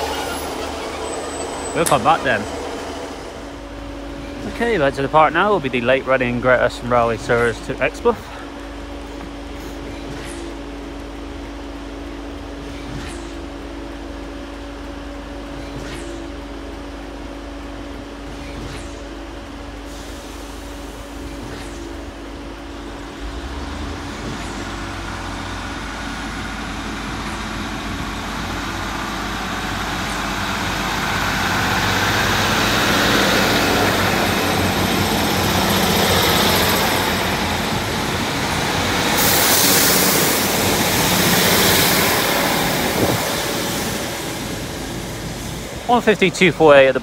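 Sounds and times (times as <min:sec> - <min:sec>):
diesel train engines running: 0:00.0 - 0:47.0.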